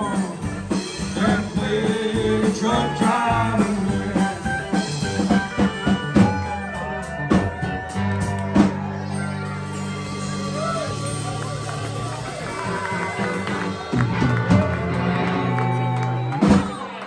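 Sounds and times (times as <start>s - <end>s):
country band playing: 0.0s - 17.0s
drums: 0.0s - 17.0s.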